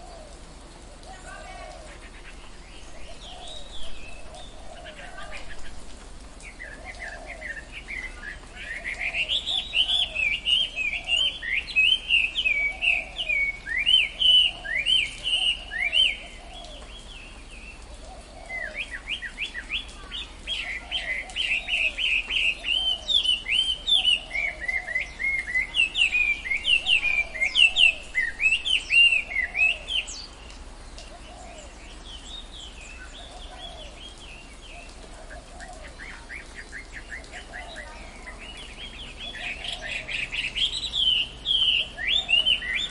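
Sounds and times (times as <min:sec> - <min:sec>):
birds chattering chirps: 0:00.0 - 0:42.9.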